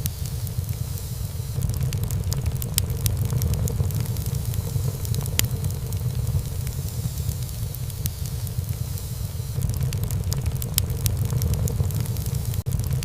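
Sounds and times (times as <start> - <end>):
low rumble of flame: 0.0 - 13.0
wood crackling and popping: 0.0 - 13.0.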